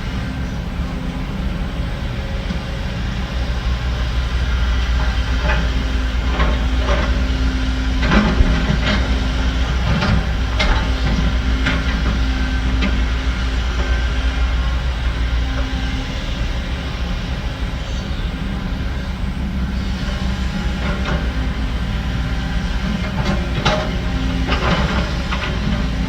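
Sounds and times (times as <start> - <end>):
heavy diesel engine droning: 0.0 - 26.0.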